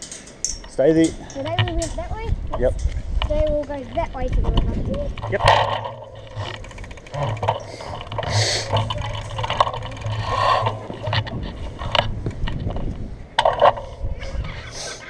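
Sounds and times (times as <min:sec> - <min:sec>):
bicycle rattling and clicking: 0:00.0 - 0:14.2
steady low hum: 0:00.0 - 0:14.8.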